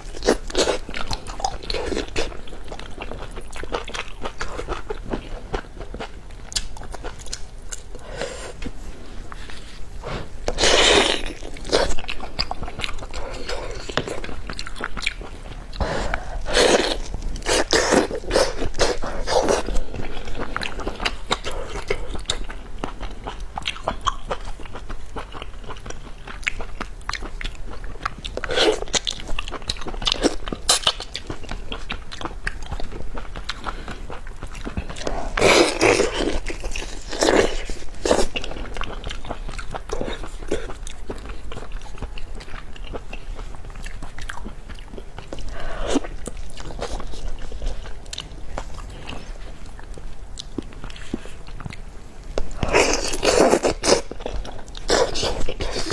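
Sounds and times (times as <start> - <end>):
person chewing and smacking: 0.0 - 8.0, 10.4 - 55.9.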